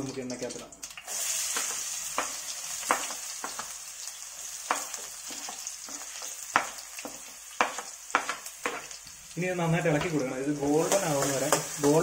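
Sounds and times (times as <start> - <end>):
onions sizzling in oil: 0.8 - 12.0.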